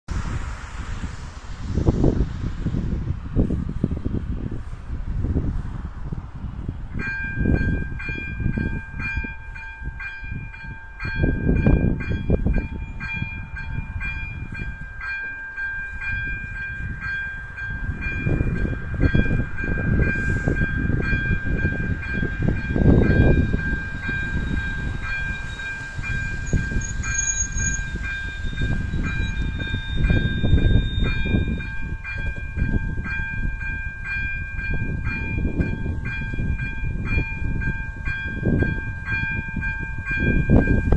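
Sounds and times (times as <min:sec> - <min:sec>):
level-crossing bell dinging: 0:07.1 - 0:40.9.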